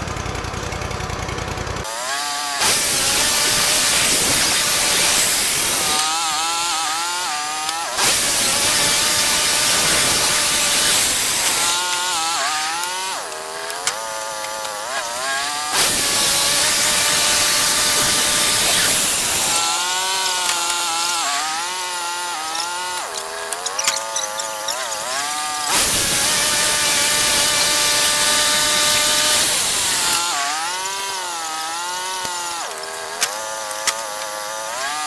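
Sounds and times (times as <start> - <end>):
bandsaw cutting log: 0.0 - 35.0.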